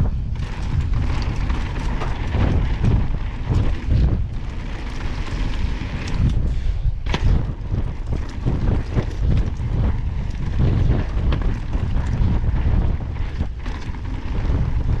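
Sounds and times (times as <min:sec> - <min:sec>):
bike rattling and knocking: 0:00.0 - 0:15.0
wind rushing over microphone: 0:00.0 - 0:15.0.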